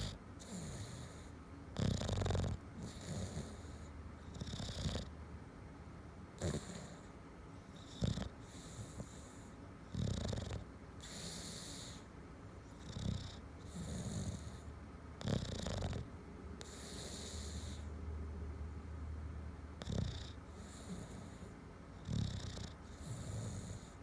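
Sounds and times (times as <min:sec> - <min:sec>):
dog snoring: 0:00.0 - 0:05.1, 0:06.4 - 0:12.1, 0:12.7 - 0:17.9, 0:19.8 - 0:24.0.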